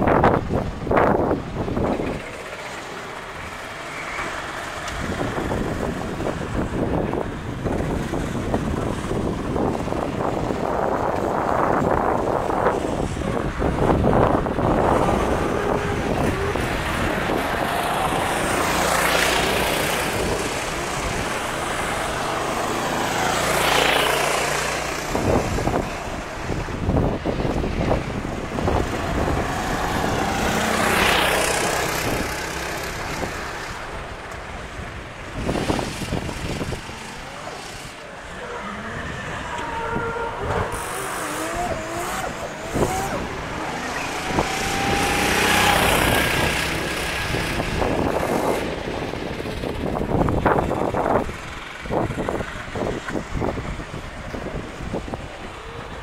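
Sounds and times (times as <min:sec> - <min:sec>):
kart engines buzzing: 0:00.0 - 0:56.0
karts passing by: 0:00.0 - 0:56.0.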